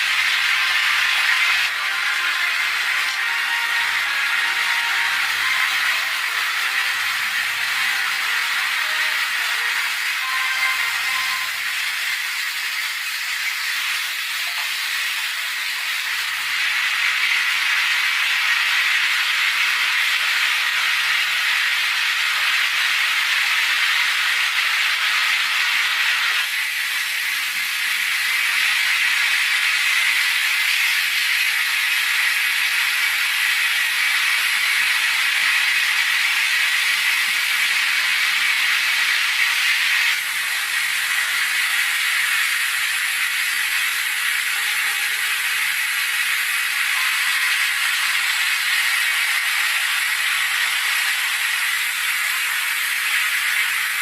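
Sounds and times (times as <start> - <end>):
loud steady hiss: 0.0 - 54.0.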